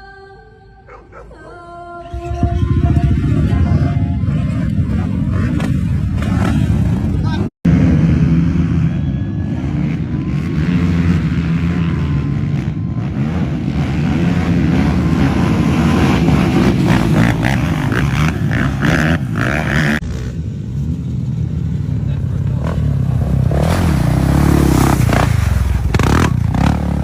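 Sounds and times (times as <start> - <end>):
small racing engines revving: 2.1 - 21.0, 22.0 - 27.0.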